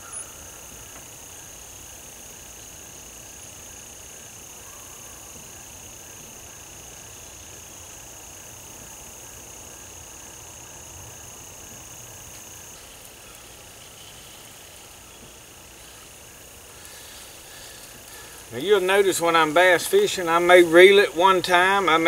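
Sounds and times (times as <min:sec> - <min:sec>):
insects droning high-pitched: 0:00.0 - 0:22.0.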